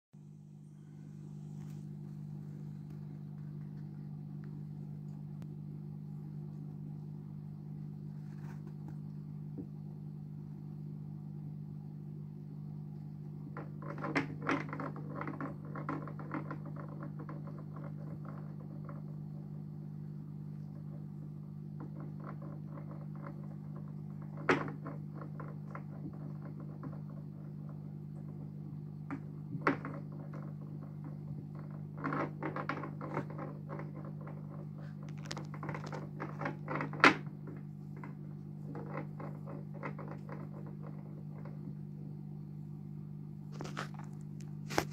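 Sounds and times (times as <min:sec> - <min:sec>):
aquarium equipment hum: 0:00.2 - 0:44.9.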